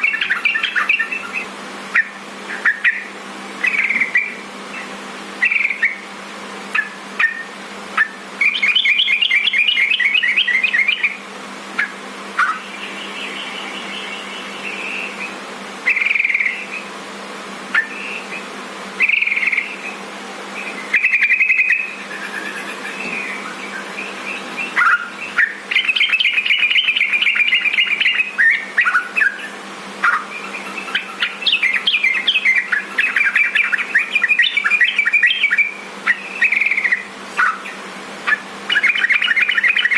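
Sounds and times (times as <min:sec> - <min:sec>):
bird chattering trills: 0:00.0 - 0:39.9
low steady hum: 0:00.0 - 0:39.9.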